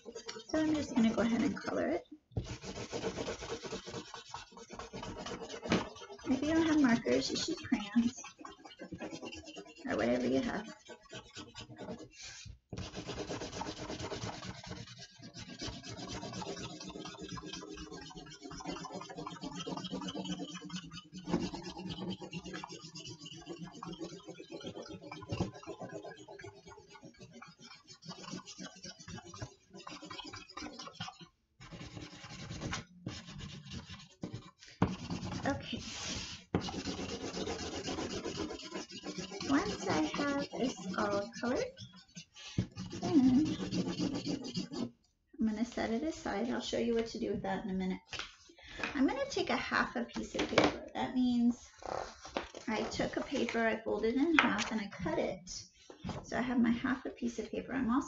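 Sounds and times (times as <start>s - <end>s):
marker scrubbing on paper: 0.0s - 45.0s, 51.7s - 53.8s.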